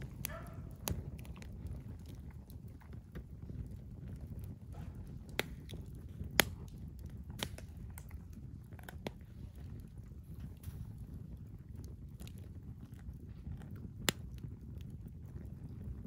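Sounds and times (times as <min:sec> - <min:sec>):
burning wood popping: 0:00.0 - 0:16.0
campfire crackling: 0:00.0 - 0:16.0
low steady rumble: 0:00.0 - 0:16.0.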